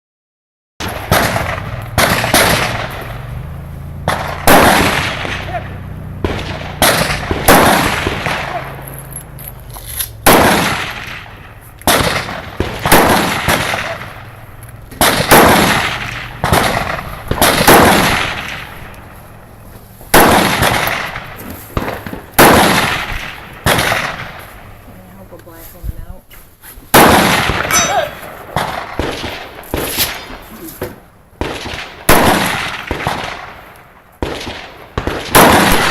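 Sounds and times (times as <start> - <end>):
rifle gunshots: 0.8 - 9.4, 10.1 - 19.4, 20.1 - 24.8, 26.9 - 30.5, 31.4 - 35.9.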